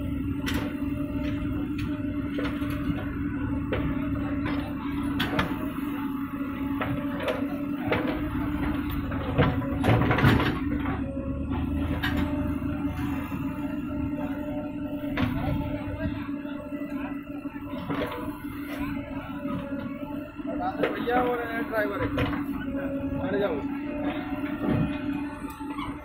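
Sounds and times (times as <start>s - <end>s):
diesel engine droning: 0.0s - 26.0s
bucket and arm clanking: 0.3s - 26.0s.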